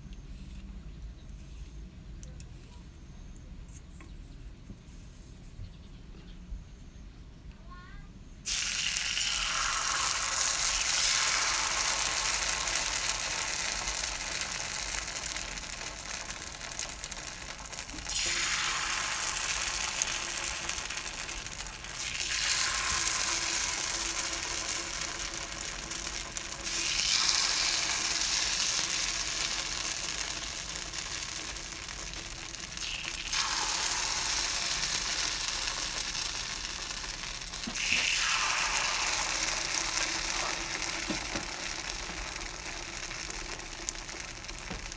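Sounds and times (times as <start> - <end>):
batter sizzling in hot mold: 8.4 - 44.9.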